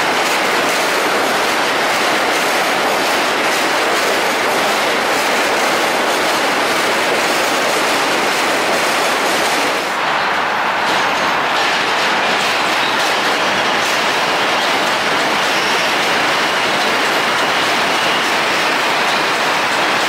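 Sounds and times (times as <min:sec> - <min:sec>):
subway train wheels on rail: 0:00.0 - 0:20.0
train passing: 0:00.0 - 0:20.0.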